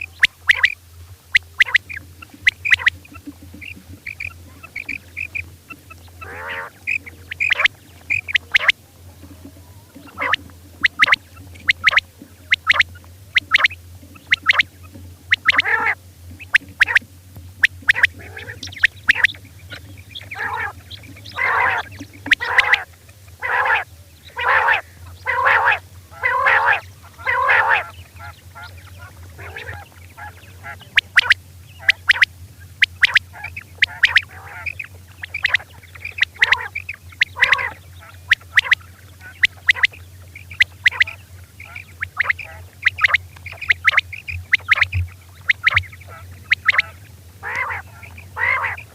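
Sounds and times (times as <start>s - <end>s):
quail calling: 0.0s - 8.8s, 9.7s - 48.9s
low hum: 0.0s - 48.9s.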